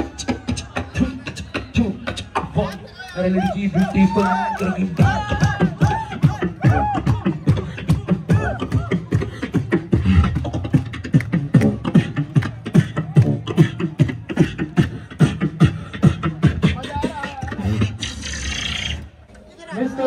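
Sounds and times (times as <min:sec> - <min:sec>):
beatboxing into microphone: 0:00.0 - 0:19.2.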